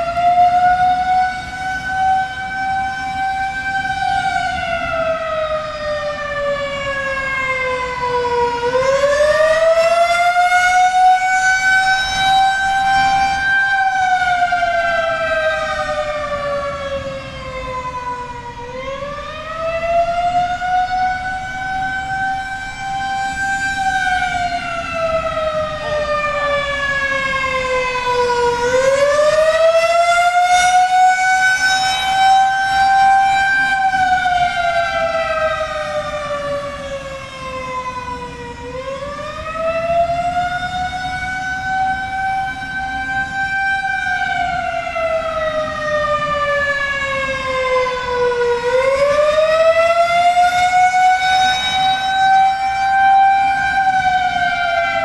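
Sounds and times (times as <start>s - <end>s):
rotating siren wailing: 0.0s - 55.0s.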